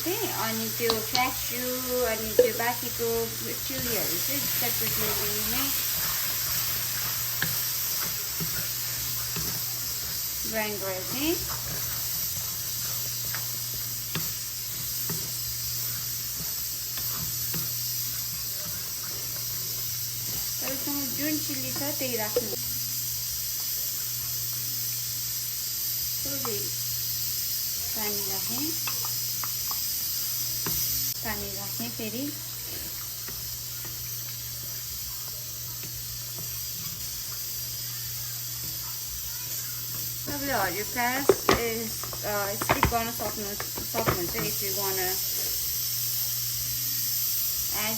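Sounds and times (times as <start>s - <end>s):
curry sizzling in a pan: 0.0s - 47.9s.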